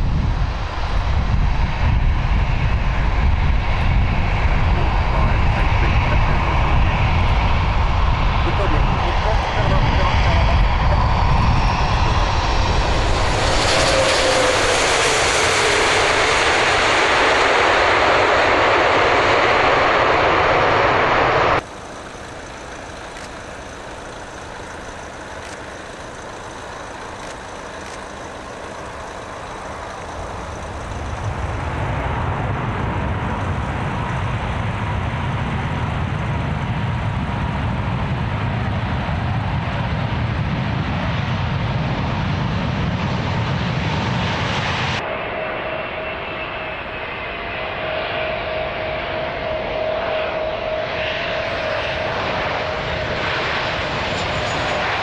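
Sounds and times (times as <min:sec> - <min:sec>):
jet engines powering up: 0:00.0 - 0:55.0
jet noise with falling whine: 0:00.0 - 0:55.0.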